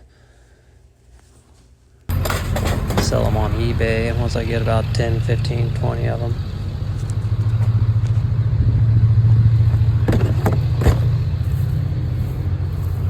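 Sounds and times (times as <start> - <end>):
vehicle engine rumble: 2.1 - 13.0.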